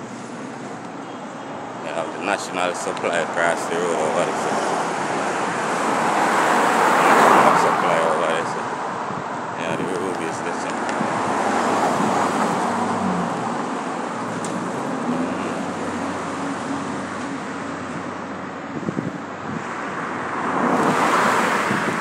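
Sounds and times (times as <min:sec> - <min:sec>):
steady engine hum: 0:00.0 - 0:21.0
cars passing: 0:00.0 - 0:22.0.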